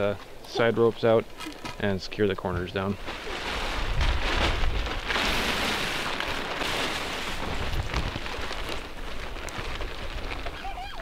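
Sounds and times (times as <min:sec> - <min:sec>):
plastic tarp rustling: 0:00.5 - 0:11.0.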